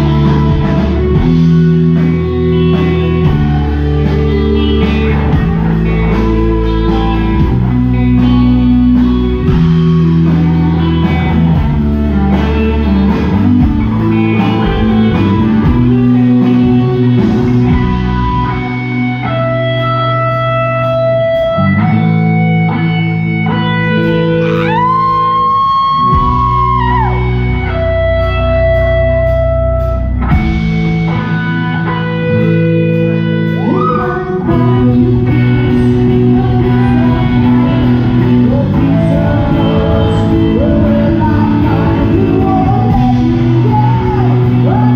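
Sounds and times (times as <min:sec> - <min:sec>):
bass guitar: 0:00.0 - 0:44.9
drums: 0:00.0 - 0:44.9
electric guitars: 0:00.0 - 0:44.9.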